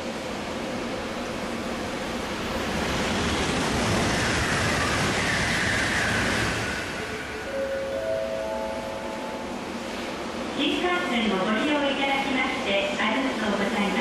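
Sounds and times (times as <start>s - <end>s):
high-speed train rushing past: 0.0s - 14.0s.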